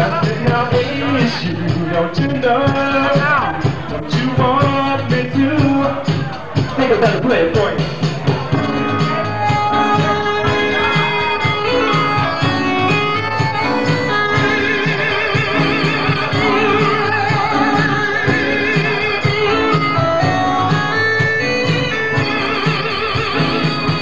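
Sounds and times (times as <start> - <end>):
sequenced backing track with pulsing bass: 0.0 - 24.0
synthesizer lead with heavy vibrato: 0.0 - 24.0.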